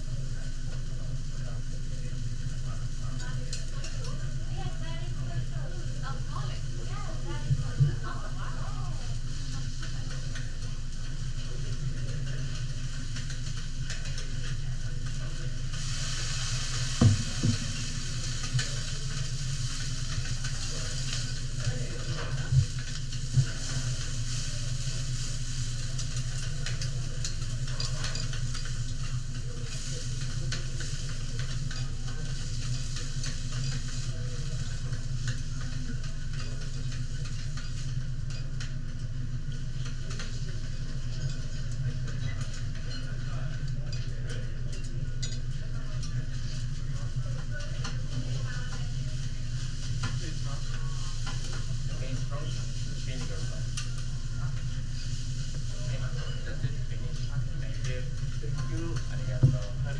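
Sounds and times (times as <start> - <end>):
food sizzling on a griddle: 0.0 - 59.9
steady low hum: 0.0 - 59.9.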